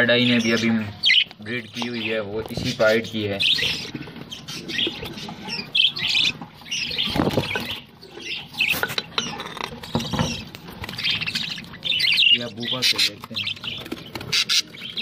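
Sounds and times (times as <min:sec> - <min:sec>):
budgerigars chirping: 0:00.0 - 0:15.0.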